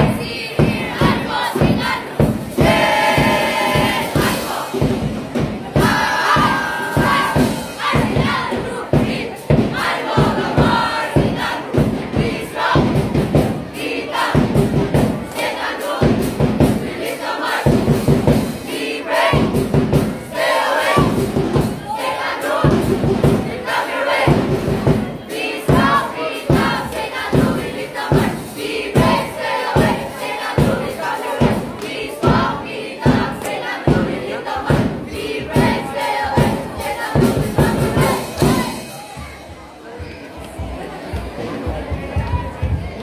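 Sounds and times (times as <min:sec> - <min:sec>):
crowd shouting and cheering: 0:00.0 - 0:43.0.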